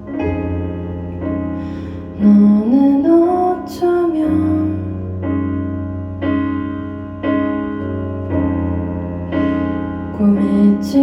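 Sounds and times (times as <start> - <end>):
piano chords over bass note: 0.0 - 11.0.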